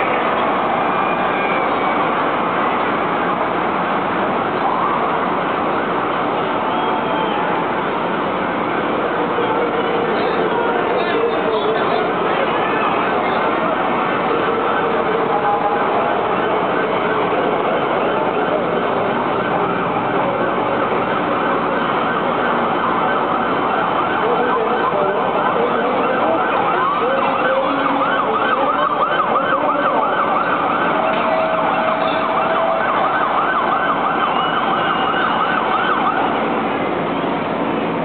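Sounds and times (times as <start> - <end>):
sirens yelping: 0.0 - 38.0
street noise: 0.0 - 38.0.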